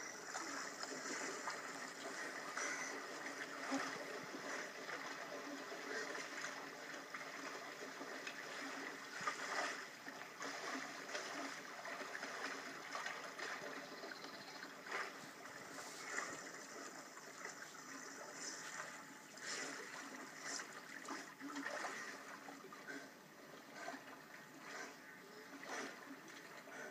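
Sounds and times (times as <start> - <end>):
lake water sloshing around swimmer: 0.0 - 26.9
small water splashes: 0.0 - 26.9.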